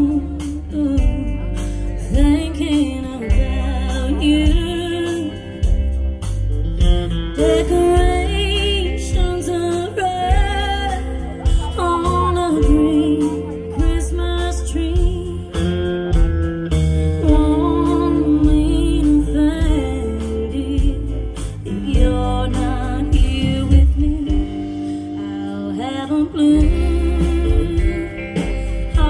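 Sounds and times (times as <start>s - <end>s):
person singing: 0.0s - 5.8s, 7.3s - 16.0s, 17.2s - 29.0s
bass line: 0.0s - 29.0s
guitars: 0.0s - 29.0s.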